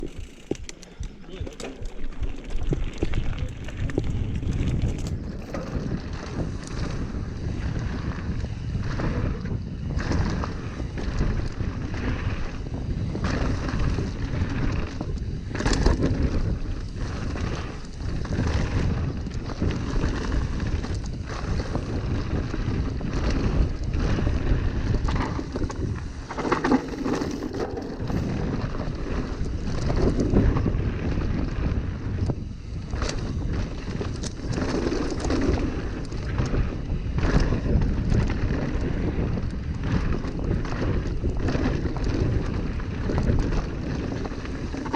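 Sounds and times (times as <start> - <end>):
bike knocks and rattles: 0.0 - 44.9
rumbling tyre noise: 0.0 - 44.9
wind buffeting microphone: 0.0 - 44.9.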